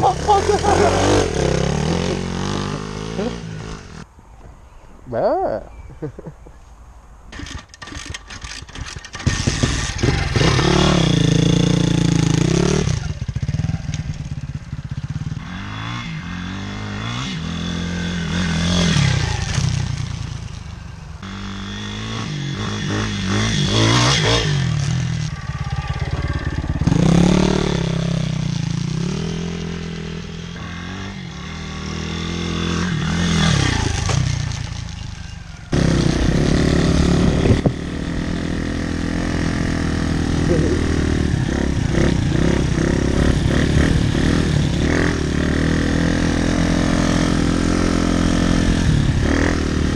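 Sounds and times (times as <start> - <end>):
motorbike engine revving: 0.0 - 4.1, 7.3 - 49.9.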